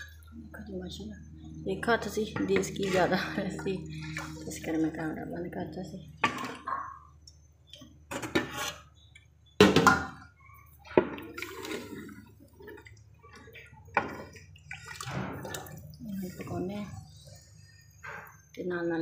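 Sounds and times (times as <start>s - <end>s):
liquid sloshing in pot: 0.0s - 19.0s.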